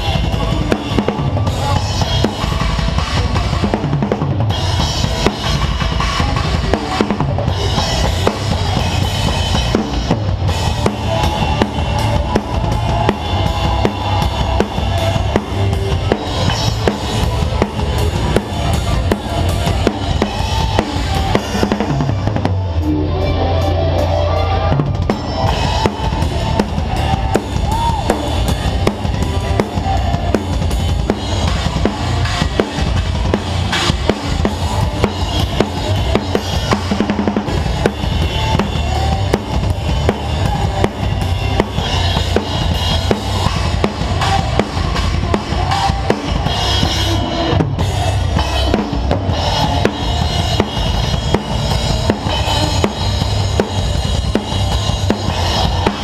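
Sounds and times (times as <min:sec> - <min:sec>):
bass drum: 0:00.0 - 0:56.0
rock band playing live: 0:00.0 - 0:56.0.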